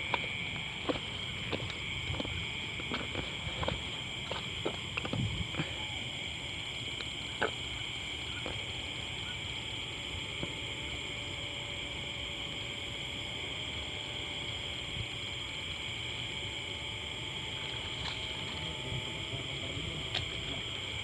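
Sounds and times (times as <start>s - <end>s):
frogs and insects chorus: 0.0s - 21.0s.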